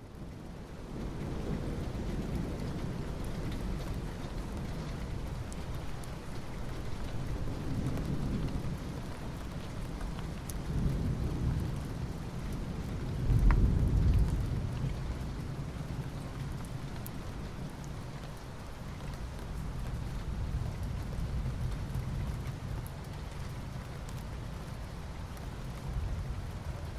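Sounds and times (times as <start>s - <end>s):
rain falling on asphalt: 0.0s - 26.9s.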